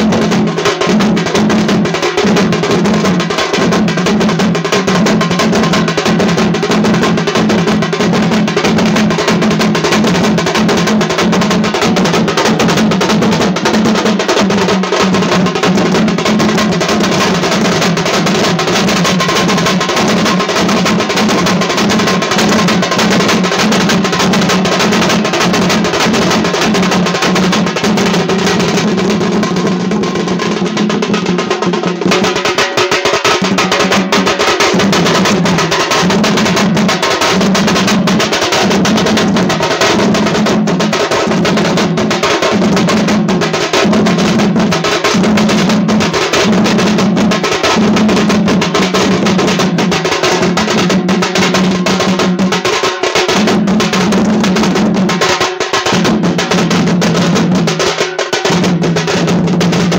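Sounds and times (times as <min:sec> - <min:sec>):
fast dense drumming: 0:00.0 - 0:59.9.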